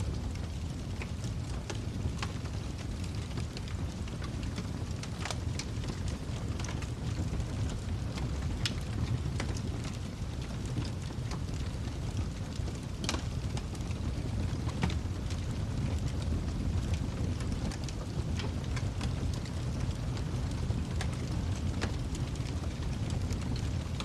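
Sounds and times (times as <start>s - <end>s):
fire crackles and pops: 0.0s - 24.0s
wood fire rumbling: 0.0s - 24.0s.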